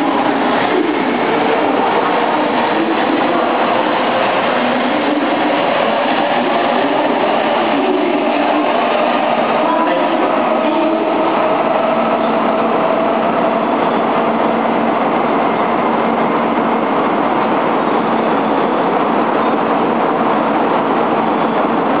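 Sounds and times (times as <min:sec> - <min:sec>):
train rushing at speed: 0:00.0 - 0:22.0.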